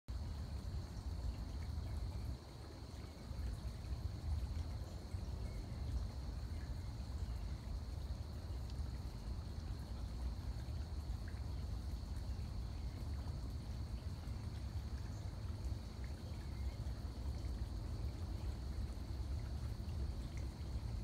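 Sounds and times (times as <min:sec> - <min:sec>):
faint trickling water: 0:00.1 - 0:21.0.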